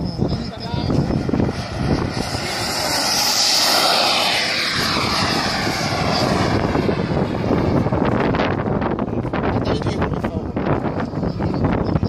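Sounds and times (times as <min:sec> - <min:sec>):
model jet turbine whine: 0:00.0 - 0:12.0.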